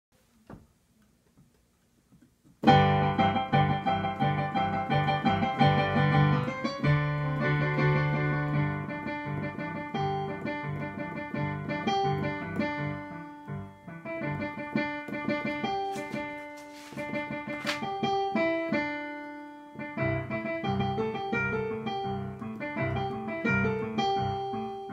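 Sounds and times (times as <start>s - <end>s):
digital piano chords: 2.6s - 24.9s.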